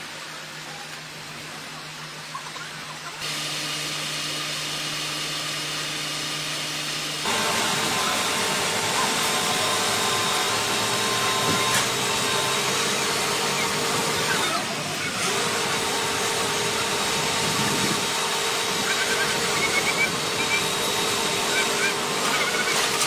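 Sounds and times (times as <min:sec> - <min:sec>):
diesel engines running: 0:00.0 - 0:23.0.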